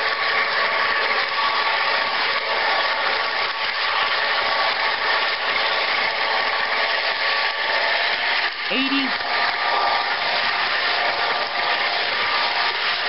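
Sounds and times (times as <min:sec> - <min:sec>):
model train motor and wheels whirring: 0:00.0 - 0:13.0.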